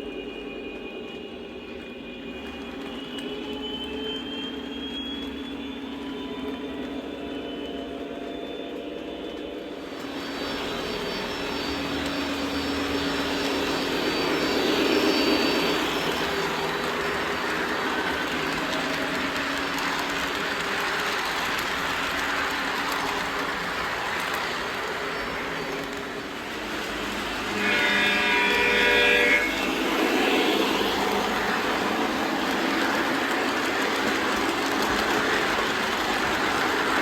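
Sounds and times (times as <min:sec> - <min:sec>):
model locomotive diesel engine sound: 0:00.0 - 0:37.0.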